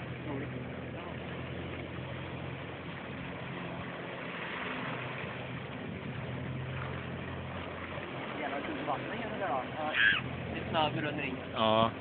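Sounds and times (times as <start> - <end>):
jet ski engine humming: 0.0 - 12.0.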